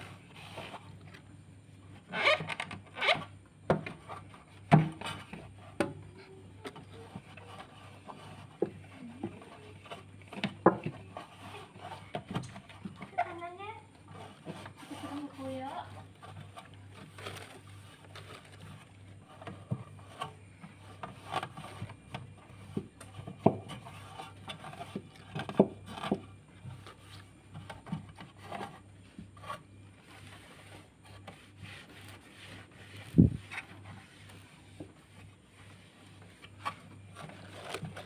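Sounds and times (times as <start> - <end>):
rubbing and scraping on a hard surface: 0.0 - 38.0.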